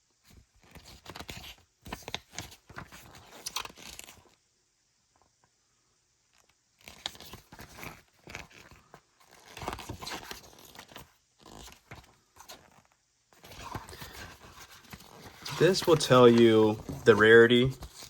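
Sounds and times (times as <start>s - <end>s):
paper and cardboard rustling: 0.3s - 4.3s, 6.8s - 18.0s.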